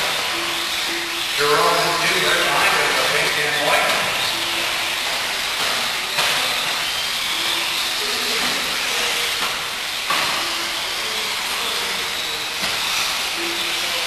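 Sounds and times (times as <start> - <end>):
electric rc cars hissing: 0.0 - 14.0
motor whining: 0.0 - 14.0.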